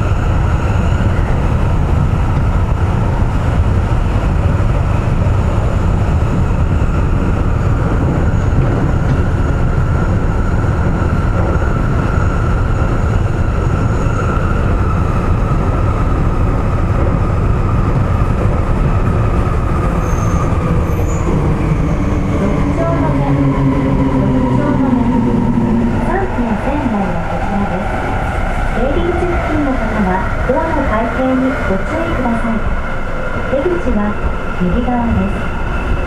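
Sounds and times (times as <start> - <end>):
train rumbling in a tunnel: 0.0 - 36.0.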